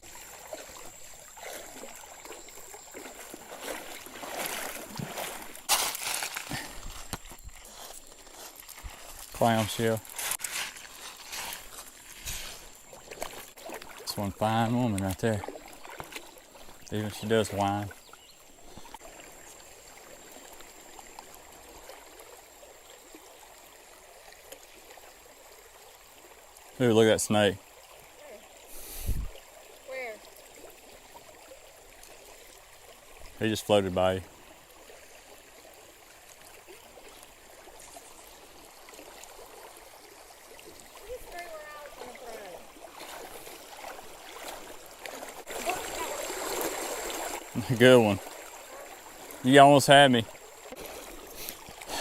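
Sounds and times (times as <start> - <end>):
creek water sloshing and splashing: 0.0 - 52.0.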